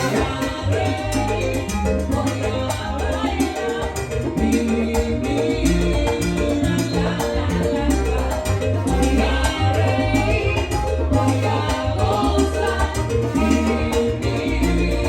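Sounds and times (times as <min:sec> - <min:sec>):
salsa band playing: 0:00.0 - 0:15.0.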